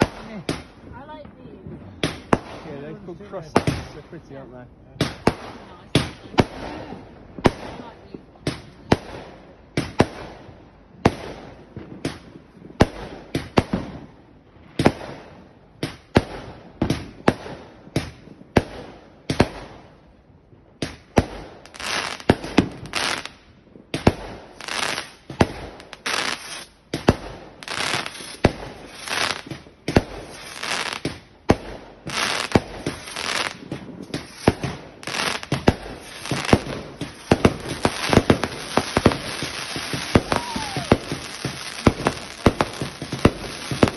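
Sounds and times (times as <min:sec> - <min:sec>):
firework crackling: 0:00.0 - 0:14.0, 0:20.8 - 0:43.9
firework bangs: 0:00.0 - 0:20.0, 0:20.8 - 0:43.9.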